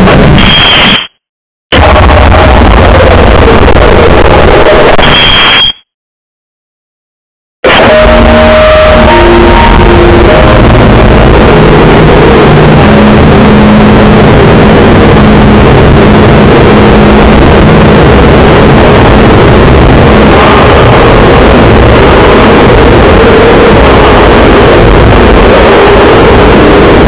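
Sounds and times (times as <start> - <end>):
harsh distorted electronic noise: 0.0 - 5.8, 7.6 - 27.0.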